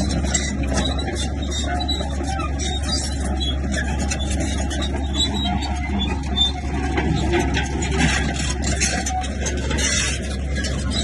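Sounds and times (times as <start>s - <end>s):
heavy diesel machinery running: 0.0s - 11.0s.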